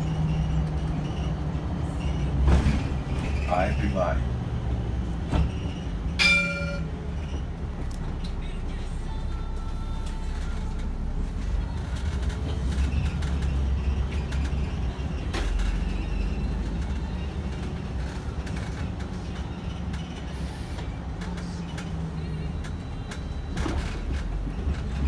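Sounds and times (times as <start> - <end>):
bus engine and road noise: 0.0 - 25.0.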